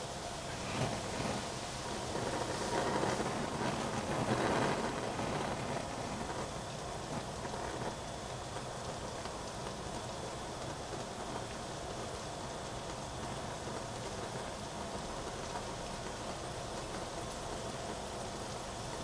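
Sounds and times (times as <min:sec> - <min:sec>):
gas stove hissing: 0:00.0 - 0:19.0.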